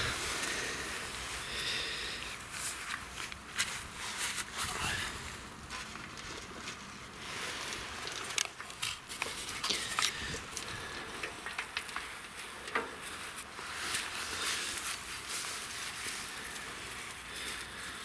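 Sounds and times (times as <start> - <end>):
soil crackling and rustling: 0.0 - 18.0.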